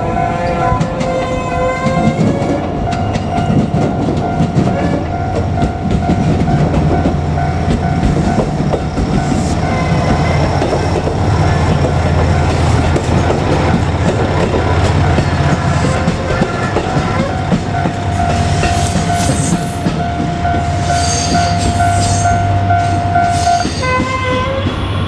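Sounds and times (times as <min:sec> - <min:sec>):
diesel engine droning: 0:00.0 - 0:21.0
level crossing warning bell: 0:00.0 - 0:24.1
train wheels clacking on rail joints: 0:00.0 - 0:25.0.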